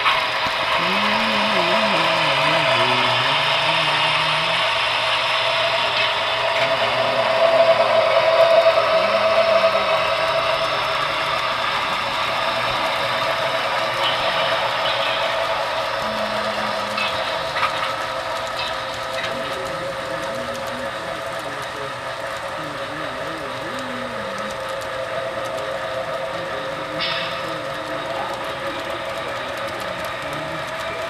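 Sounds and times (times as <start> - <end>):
model train motor whirring: 0.0 - 31.0.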